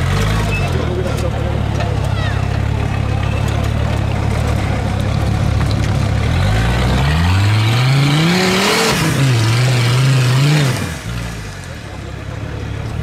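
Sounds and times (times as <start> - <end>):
buggy engine revving: 0.0 - 13.0.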